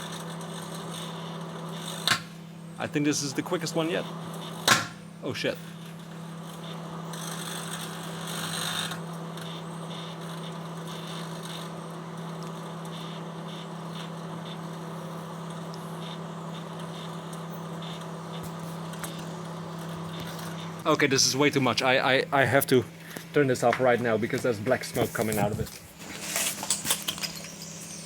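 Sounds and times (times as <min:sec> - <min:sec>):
microwave oven humming: 0:00.0 - 0:28.0.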